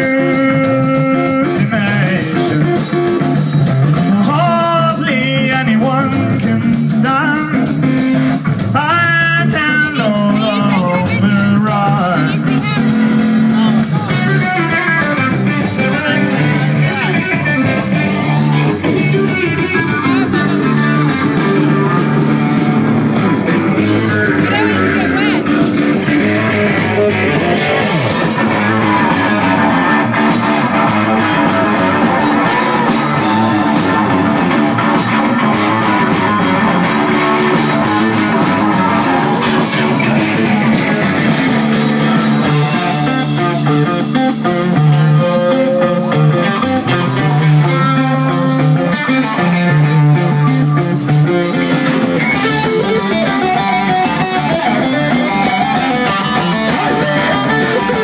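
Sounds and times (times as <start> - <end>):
bass guitar: 0.0 - 58.0
drums: 0.0 - 58.0
strummed electric guitars: 0.0 - 58.0.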